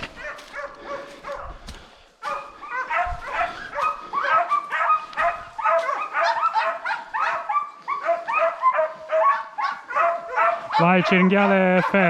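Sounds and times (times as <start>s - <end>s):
hounds yelping and baying: 0.0s - 12.0s.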